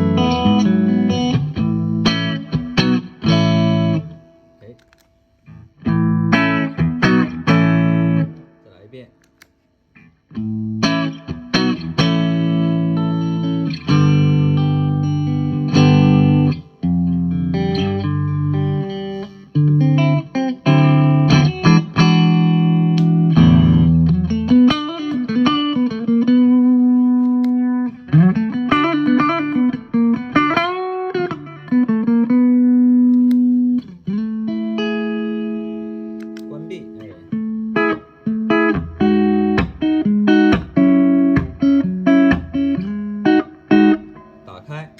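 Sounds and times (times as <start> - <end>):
electric guitar playing: 0.0 - 4.8, 5.4 - 8.6, 9.9 - 44.9.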